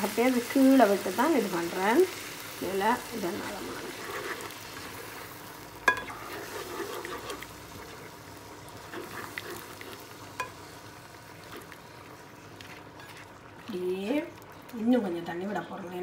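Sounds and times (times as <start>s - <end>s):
sauce sizzling in a pan: 0.0s - 14.3s.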